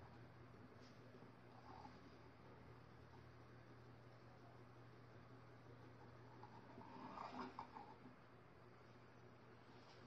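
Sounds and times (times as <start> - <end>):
low electric motor hum: 0.0 - 10.0.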